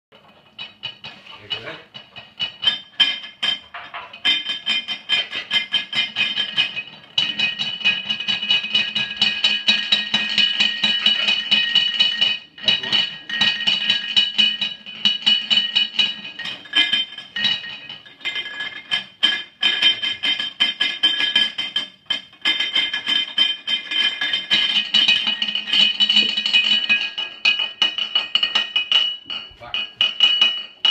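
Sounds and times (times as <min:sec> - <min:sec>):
ceramic lids clinking: 0:00.3 - 0:30.9.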